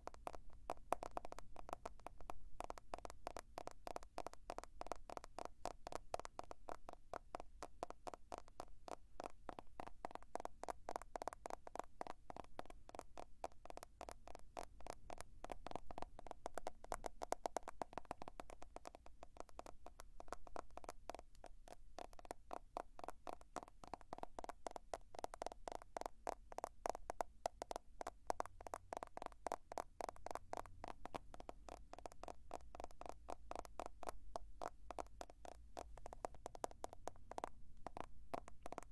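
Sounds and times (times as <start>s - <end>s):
fingers tapping on a smartphone: 0.0s - 38.9s.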